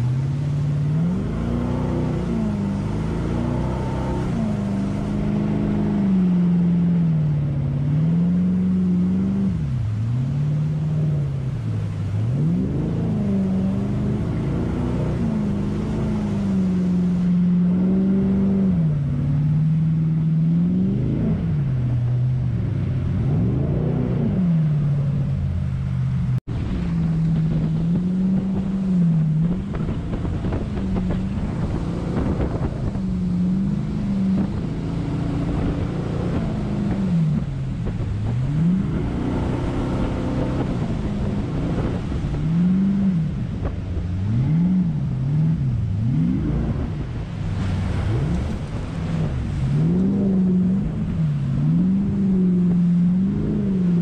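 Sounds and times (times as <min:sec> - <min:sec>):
boat engine revving: 0:00.0 - 0:54.0
rushing water: 0:00.0 - 0:54.0
wind noise on microphone: 0:00.0 - 0:54.0.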